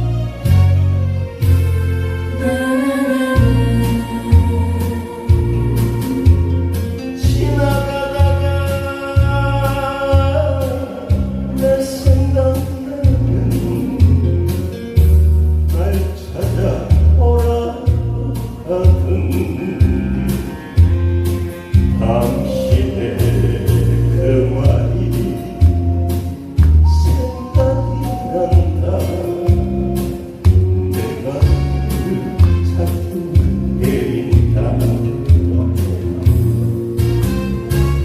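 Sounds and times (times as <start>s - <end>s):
person singing: 2.3s - 14.4s, 15.7s - 20.6s, 22.0s - 26.2s, 26.8s - 36.6s
backing track with low beat: 3.3s - 38.0s.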